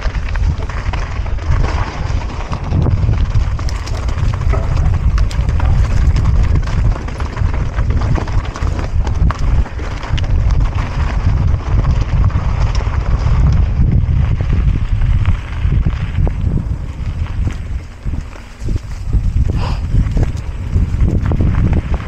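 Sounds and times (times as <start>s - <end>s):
tyres rumbling over dirt: 0.0s - 22.0s
wind buffeting microphone: 0.0s - 22.0s.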